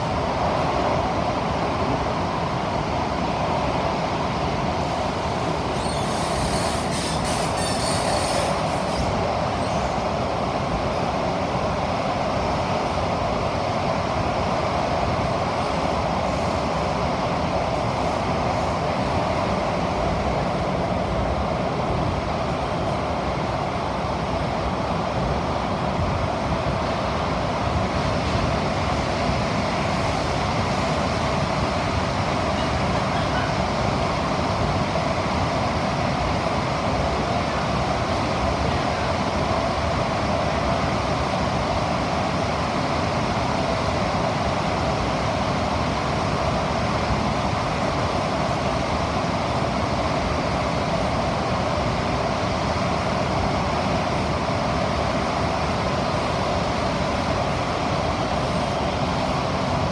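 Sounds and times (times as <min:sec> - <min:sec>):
metro train running in tunnel: 0:00.0 - 0:59.9.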